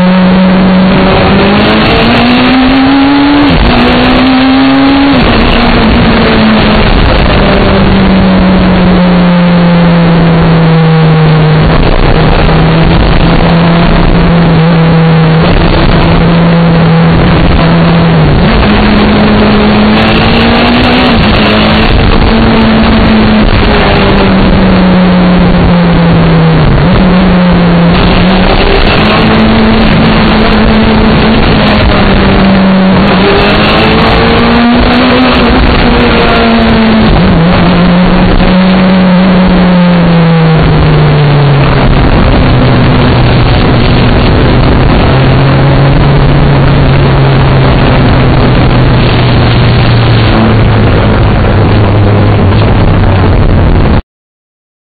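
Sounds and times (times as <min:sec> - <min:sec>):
car engine revving: 0:00.0 - 0:54.0
wind and road noise: 0:00.0 - 0:54.0.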